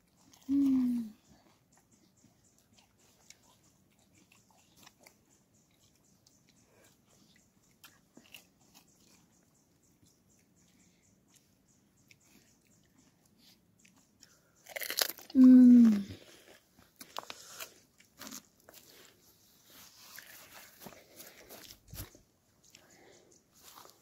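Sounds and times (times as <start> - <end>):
crunching and chewing: 0.0 - 24.0.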